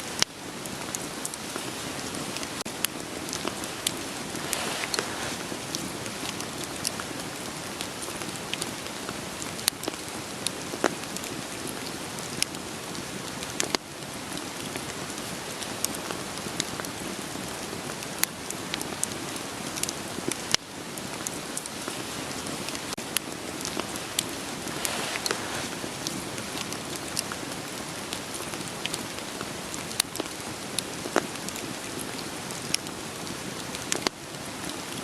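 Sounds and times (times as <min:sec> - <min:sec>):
rain pattering: 0:00.0 - 0:35.0
wood fire crackling: 0:00.0 - 0:35.0.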